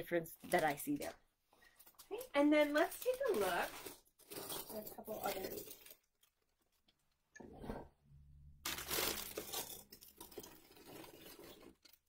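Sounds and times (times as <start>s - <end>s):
plastic bags crinkling: 0.2s - 6.8s, 8.6s - 12.0s.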